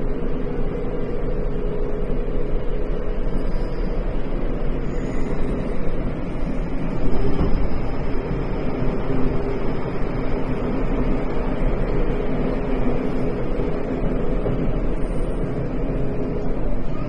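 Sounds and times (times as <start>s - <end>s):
subway train wheels rumbling on rail: 0.0s - 17.0s.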